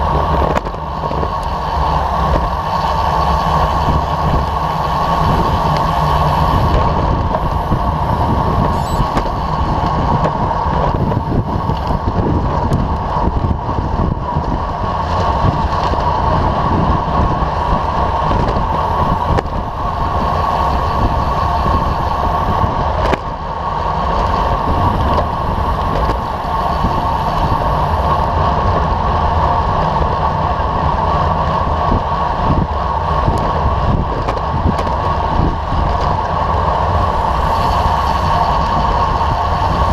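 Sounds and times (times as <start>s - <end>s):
tyres on asphalt: 0.0s - 39.9s
wind rushing: 3.5s - 30.6s, 33.5s - 39.9s.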